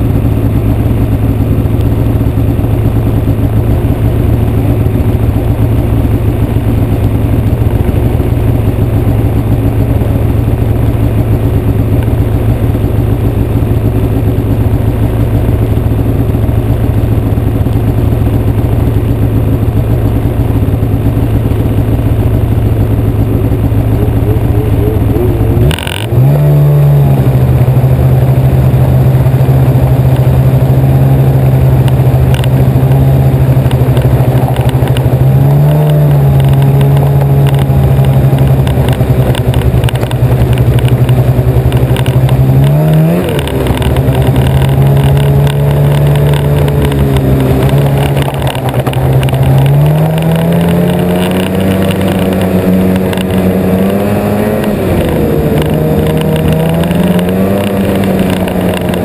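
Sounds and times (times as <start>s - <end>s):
snowmobile engine idling and revving: 0.0s - 59.0s.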